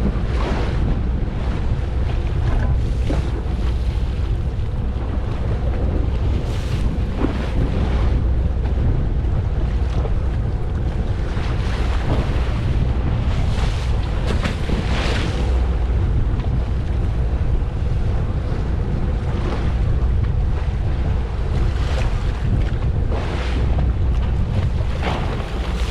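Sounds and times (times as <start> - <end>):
low rumble: 0.0 - 25.9
waves washing against boat: 0.0 - 25.9
wind buffeting microphone: 0.0 - 25.9.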